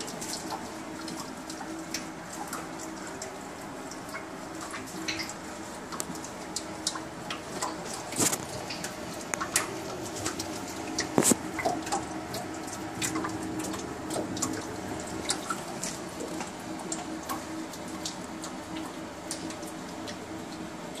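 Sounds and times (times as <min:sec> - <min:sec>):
dishwasher low hum: 0:00.0 - 0:21.0
water dripping: 0:00.0 - 0:21.0.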